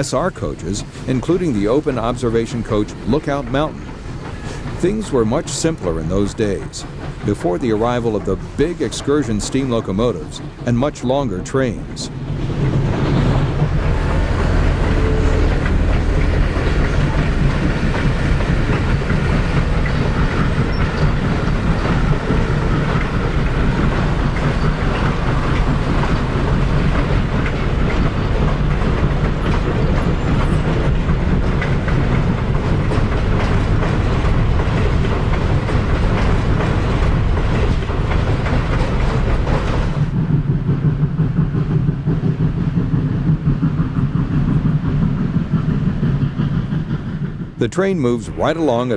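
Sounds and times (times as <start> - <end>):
steam train rumbling past: 0.0 - 48.9
wheels clattering over rail joints: 0.0 - 48.9.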